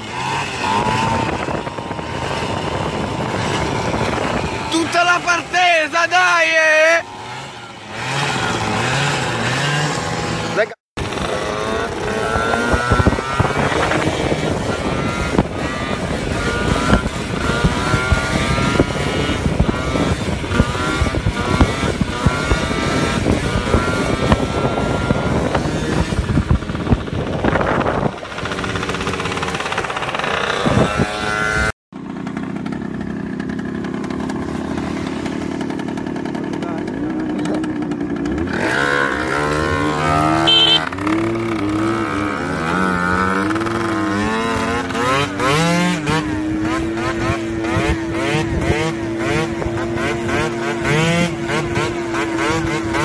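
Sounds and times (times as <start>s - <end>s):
engine crackles: 0.0s - 53.0s
scooter engine revving: 0.0s - 53.0s.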